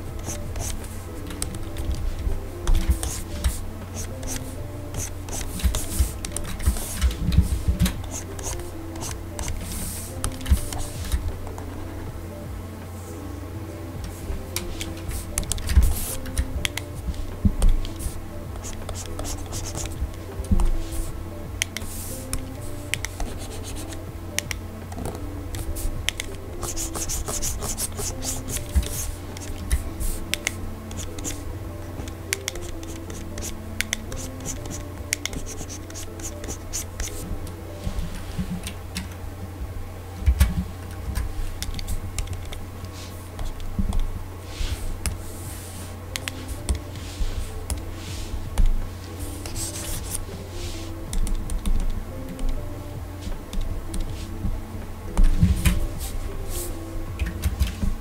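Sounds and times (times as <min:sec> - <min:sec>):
stylus scratching and tapping: 0:00.0 - 0:12.6, 0:14.0 - 0:39.2, 0:40.2 - 0:52.6
soft background music: 0:00.0 - 0:58.0.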